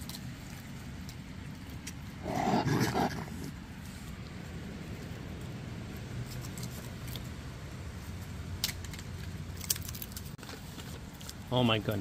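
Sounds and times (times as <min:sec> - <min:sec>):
raccoons chewing food: 0:00.0 - 0:12.0.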